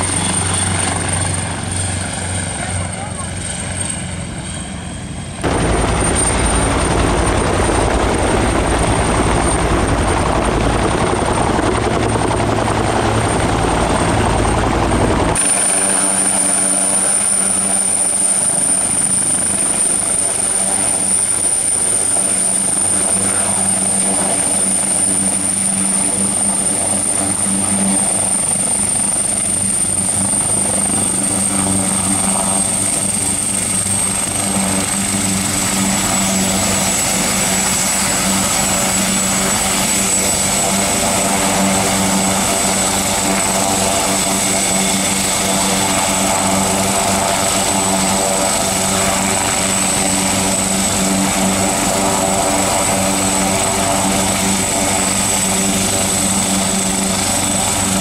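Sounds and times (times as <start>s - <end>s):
helicopter rotor noise: 0.0s - 58.0s
high turbine whine: 0.0s - 58.0s.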